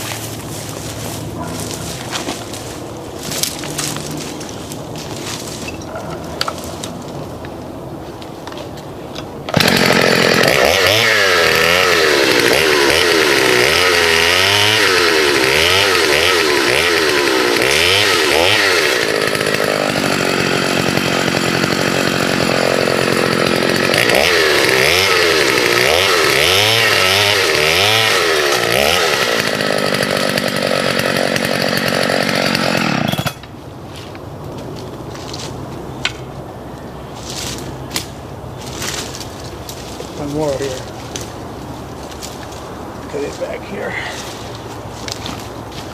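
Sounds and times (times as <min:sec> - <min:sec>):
chainsaw cutting branches: 0:00.0 - 0:07.7, 0:09.5 - 0:33.6, 0:37.2 - 0:45.9.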